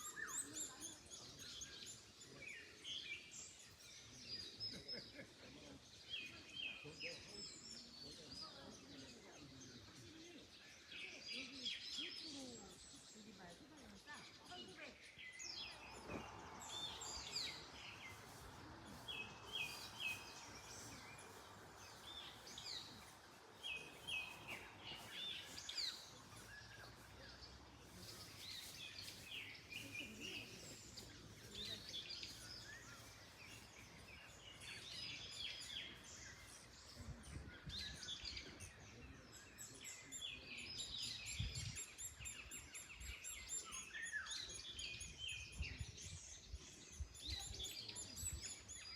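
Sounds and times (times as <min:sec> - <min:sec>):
songbirds chirping and singing: 0:00.0 - 0:48.9
wind rustling through trees: 0:00.0 - 0:48.9.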